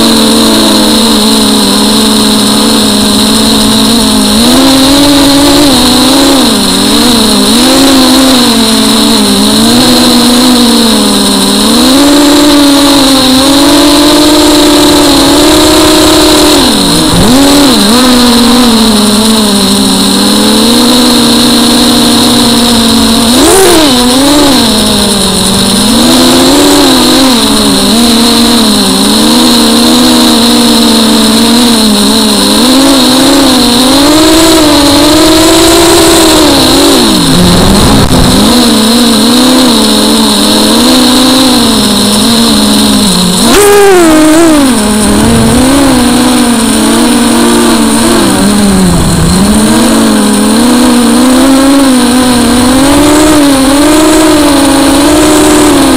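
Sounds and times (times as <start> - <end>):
drone motors whining: 0.0 - 55.9
steady high-pitched tone: 0.0 - 55.9.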